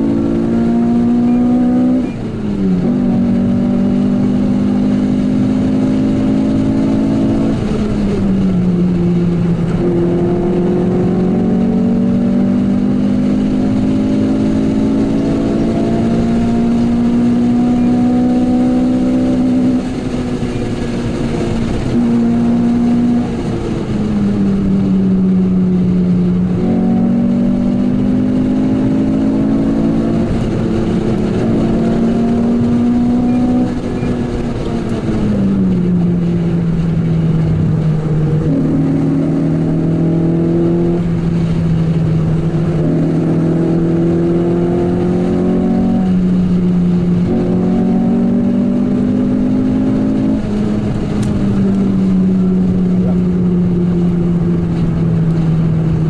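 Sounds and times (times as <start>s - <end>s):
car engine while driving: 0.0s - 56.0s
road and tyre noise: 0.0s - 56.0s.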